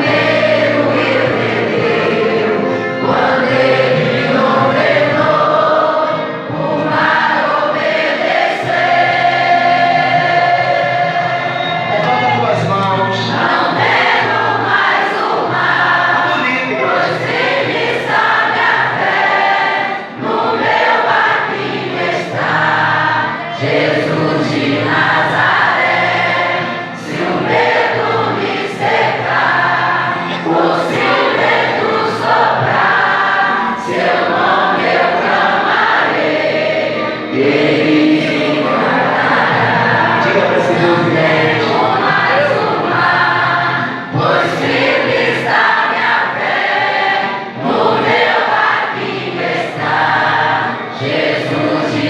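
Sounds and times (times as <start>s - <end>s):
congregation singing a worship song: 0.0s - 52.0s.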